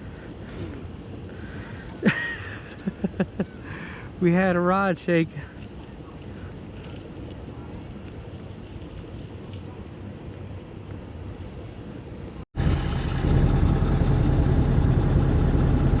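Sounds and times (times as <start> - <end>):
engine humming: 0.0 - 16.0
low steady rumble: 0.0 - 16.0.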